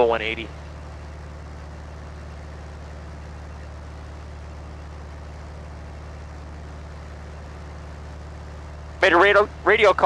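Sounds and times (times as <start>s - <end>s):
propeller aircraft engine hum: 0.0s - 10.0s.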